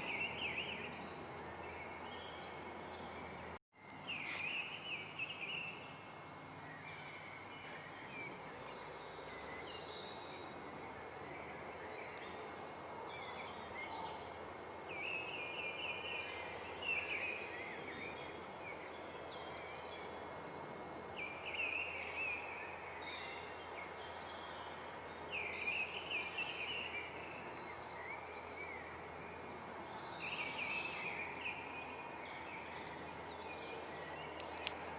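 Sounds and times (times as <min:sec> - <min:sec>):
songbirds chirping: 0:00.0 - 0:34.9
steady background hiss: 0:00.0 - 0:34.9.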